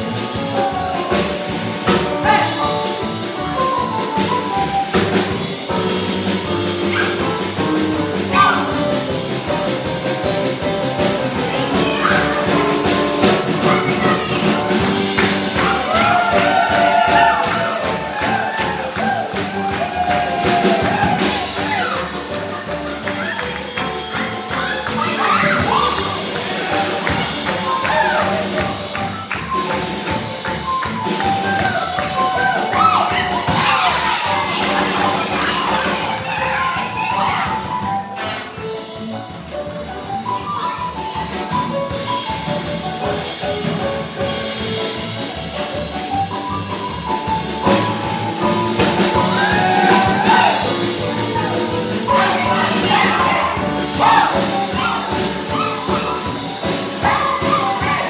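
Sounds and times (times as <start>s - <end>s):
percussion beat: 0.0s - 58.0s
stage-show music: 0.0s - 58.0s.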